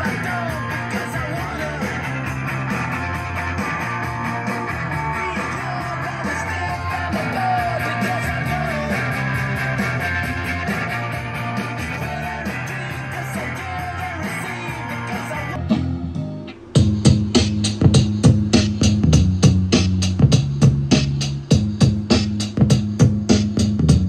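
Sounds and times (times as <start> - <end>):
rock music through speakers: 0.0 - 24.0.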